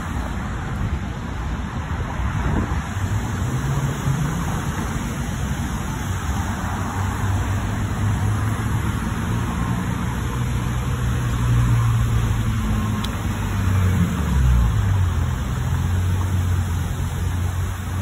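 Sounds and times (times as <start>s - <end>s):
car engines running: 0.0s - 18.0s
tyres on road: 0.0s - 18.0s.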